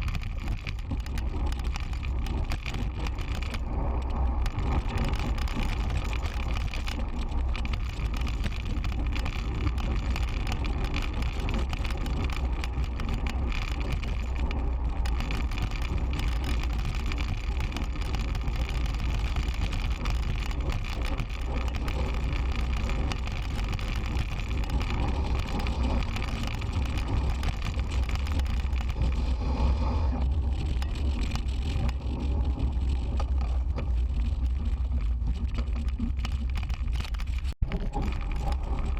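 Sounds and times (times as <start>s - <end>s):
bicycle road noise: 0.0s - 38.9s.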